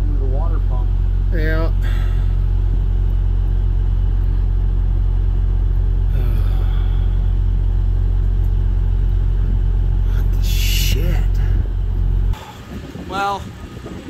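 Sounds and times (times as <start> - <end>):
diesel bus engine idling: 0.0 - 14.0.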